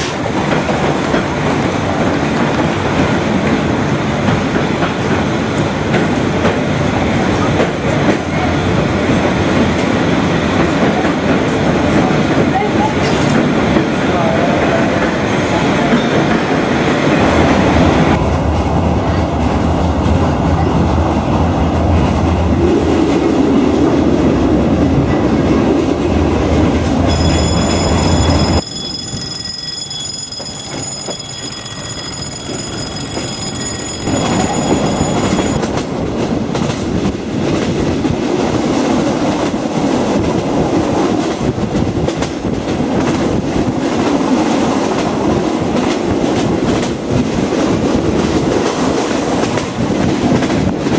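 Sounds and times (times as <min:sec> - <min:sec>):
train rumbling on rails: 0:00.0 - 0:50.9.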